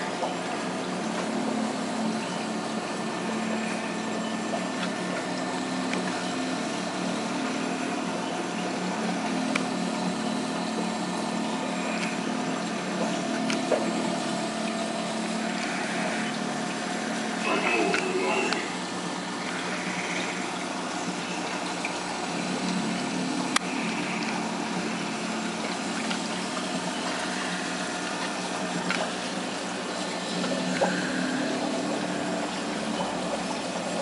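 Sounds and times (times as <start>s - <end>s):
hiss of circulating water: 0.0s - 34.0s
pump hum: 0.0s - 34.0s.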